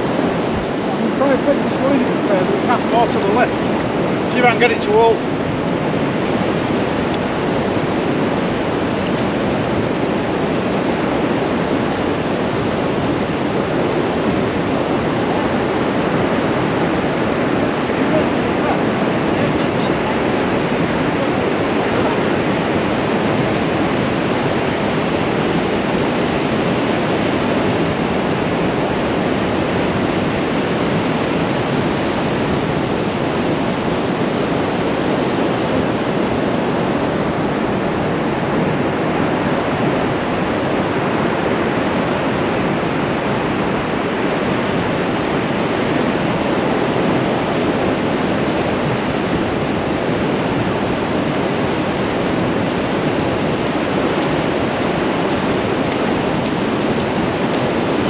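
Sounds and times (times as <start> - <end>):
surf breaking on beach: 0.0 - 58.0.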